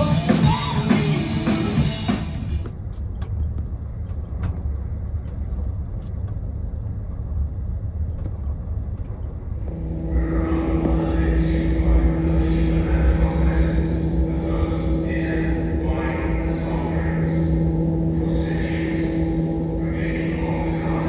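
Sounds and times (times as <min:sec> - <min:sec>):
ship's machinery droning hum: 0:00.0 - 0:21.0
vehicle road rumble: 0:00.0 - 0:21.0.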